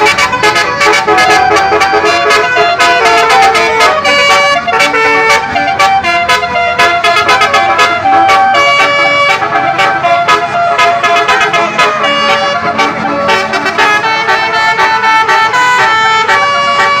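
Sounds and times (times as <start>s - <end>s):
bus trumpet horns playing tunes: 0.0s - 17.0s.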